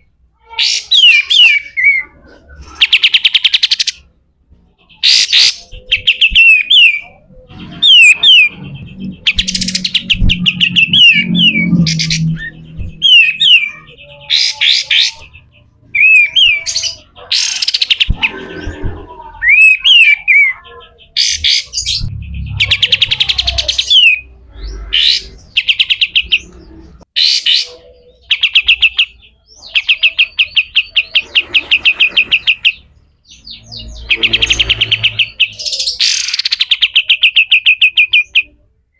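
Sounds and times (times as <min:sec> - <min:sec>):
bird singing chattering trills: 0:04.9 - 0:38.6.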